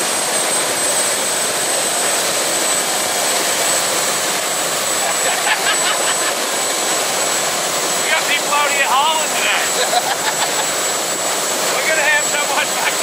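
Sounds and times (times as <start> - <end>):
boat rushing roar: 0.0 - 13.0
thin high whine: 0.0 - 13.0.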